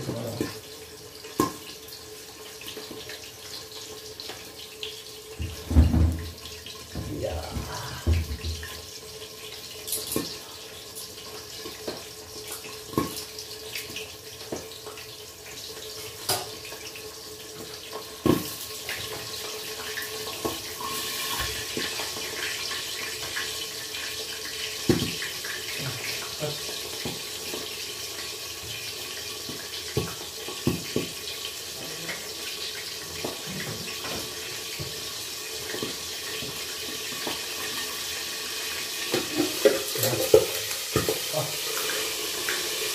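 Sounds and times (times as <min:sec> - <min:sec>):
fish frying in hot oil: 0:00.0 - 0:42.9.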